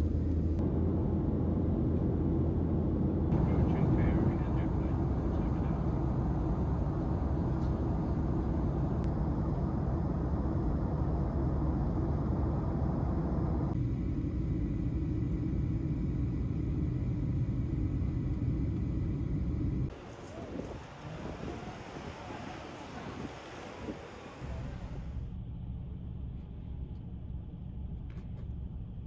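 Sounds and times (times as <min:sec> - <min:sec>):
vehicle rumble from inside: 0:00.0 - 0:29.0.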